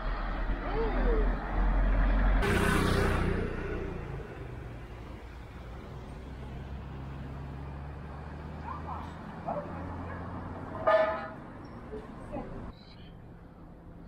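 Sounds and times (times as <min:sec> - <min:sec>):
car engine humming: 0:00.0 - 0:12.7.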